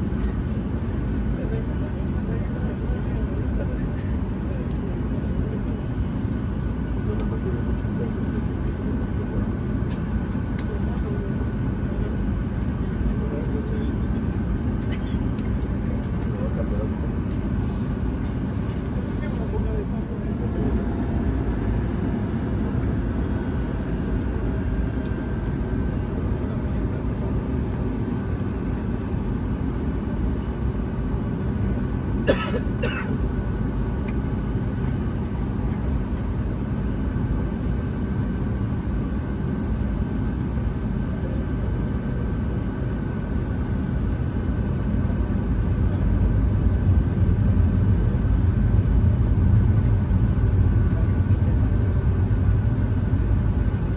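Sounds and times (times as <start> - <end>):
airplane cabin engine rumble: 0.0 - 53.9.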